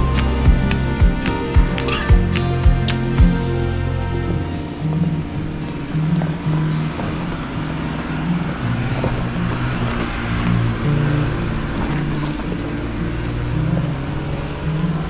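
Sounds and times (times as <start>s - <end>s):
background music: 0.0s - 15.0s
vehicle engine and tyre rumble: 0.0s - 15.0s.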